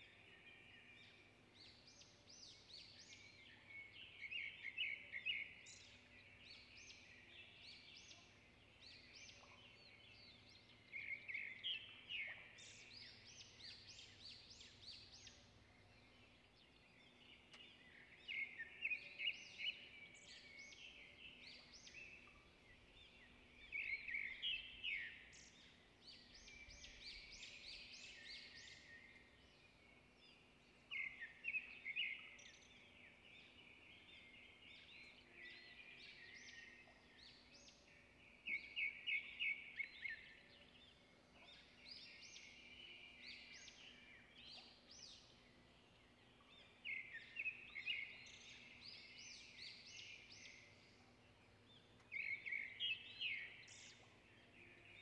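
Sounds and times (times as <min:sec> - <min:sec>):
birds chirping: 0:09.2 - 0:55.0.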